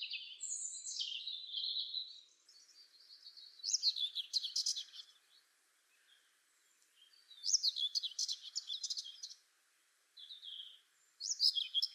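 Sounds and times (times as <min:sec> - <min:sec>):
songbird singing: 0:00.0 - 0:11.9.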